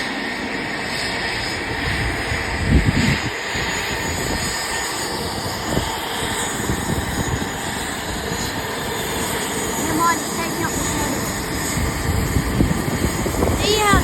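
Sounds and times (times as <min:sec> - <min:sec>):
turboprop engines running: 0:00.0 - 0:14.0.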